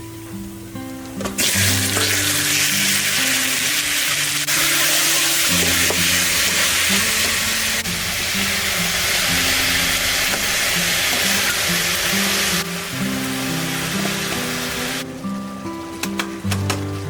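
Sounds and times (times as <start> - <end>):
food sizzling in hot oil: 0.5 - 15.7.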